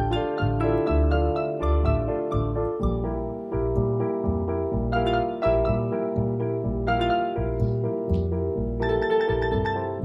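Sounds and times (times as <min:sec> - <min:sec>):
bright plucked notes: 0:00.0 - 0:10.0
deep bass notes: 0:00.0 - 0:10.0.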